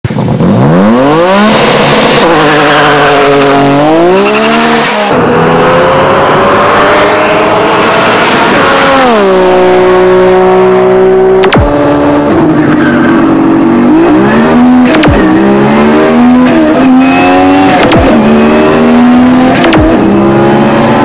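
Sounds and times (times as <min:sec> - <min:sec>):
turbo car engine accelerating: 0:00.1 - 0:21.0.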